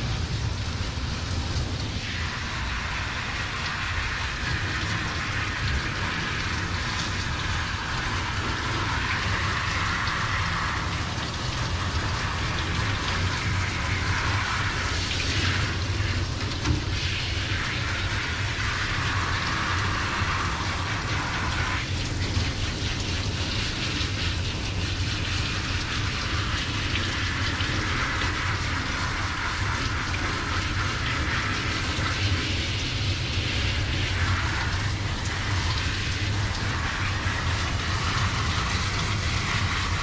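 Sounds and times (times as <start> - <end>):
water running and spraying: 0.0 - 40.0.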